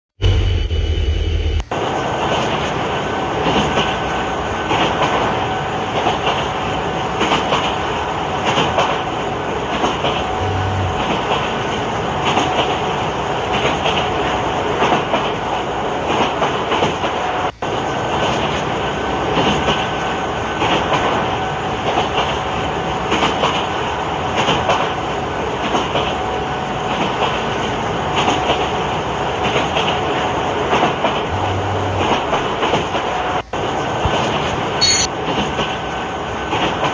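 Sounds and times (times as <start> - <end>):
train rumbling on track: 0.1 - 36.9
wheels clattering over rails: 0.2 - 36.9.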